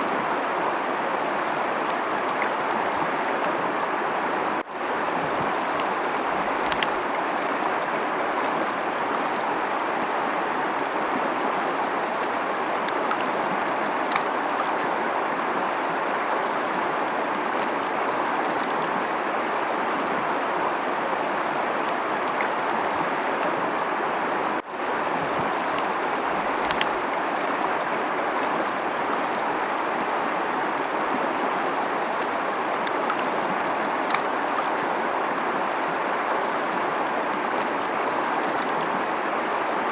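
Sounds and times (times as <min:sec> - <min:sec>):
river rushing over rocks: 0:00.0 - 0:39.9
water splashes and trickles: 0:00.0 - 0:39.9.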